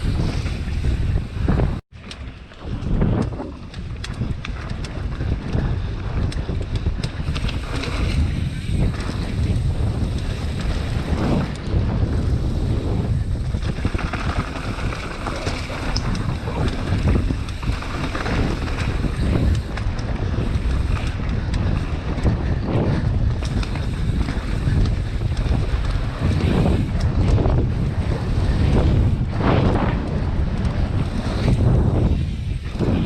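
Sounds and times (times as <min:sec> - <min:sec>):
bike knocks and rattles: 0:00.0 - 0:33.0
wind buffeting microphone: 0:00.0 - 0:33.0.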